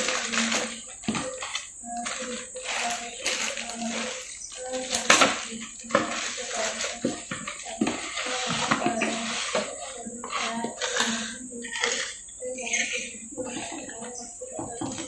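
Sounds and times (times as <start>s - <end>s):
jars knocking and clinking: 0.0s - 15.0s
steady hiss: 0.0s - 15.0s.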